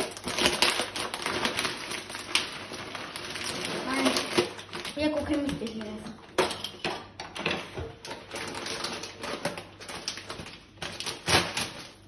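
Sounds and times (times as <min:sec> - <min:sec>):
scissors cutting crisp packet: 0:00.0 - 0:06.0, 0:08.1 - 0:12.0.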